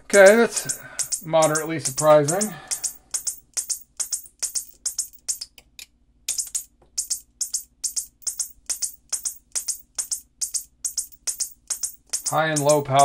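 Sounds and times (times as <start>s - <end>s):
strobe power supply ticking: 0.0s - 5.7s, 6.3s - 13.0s.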